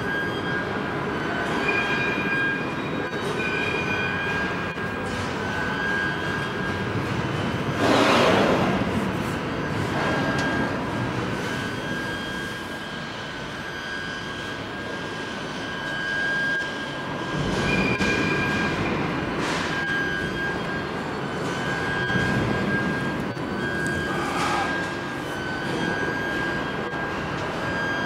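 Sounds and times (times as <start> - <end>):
machine-shop hum: 0.0 - 28.0
machinery whine: 0.0 - 28.0.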